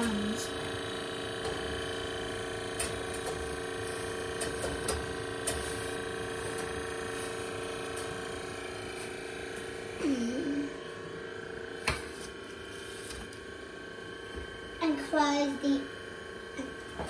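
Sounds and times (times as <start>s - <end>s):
oven fan humming: 0.0s - 17.0s.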